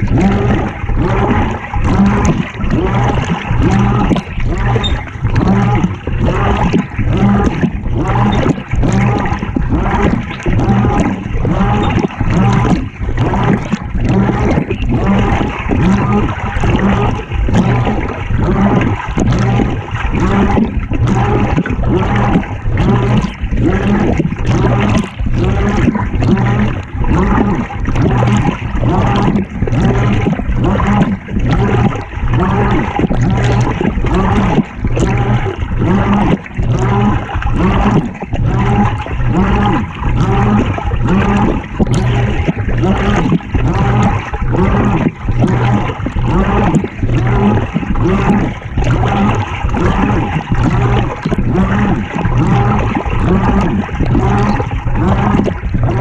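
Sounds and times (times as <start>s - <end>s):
low motor hum: 0.0s - 56.0s
water sloshing in washing machine: 0.0s - 56.0s.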